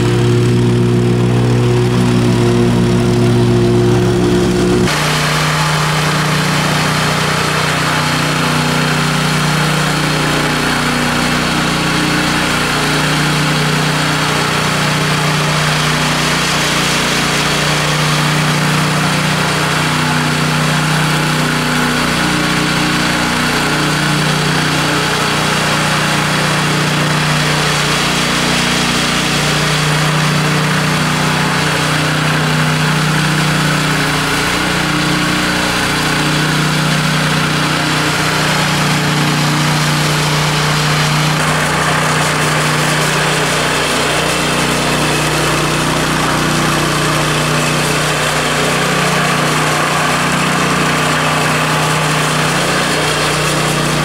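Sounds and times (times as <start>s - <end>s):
power trowel engine running: 0.0s - 54.0s.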